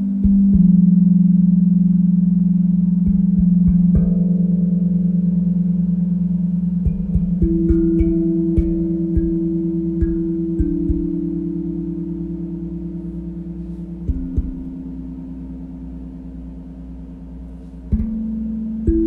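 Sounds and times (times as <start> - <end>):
steel tongue drum notes ringing: 0.0 - 19.0.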